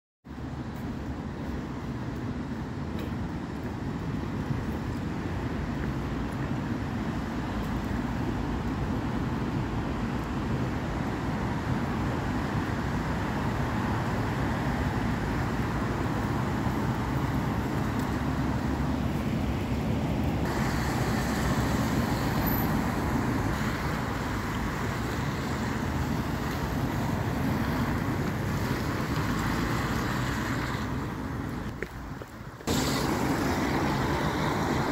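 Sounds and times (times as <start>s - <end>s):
traffic on wet road: 0.3s - 34.9s.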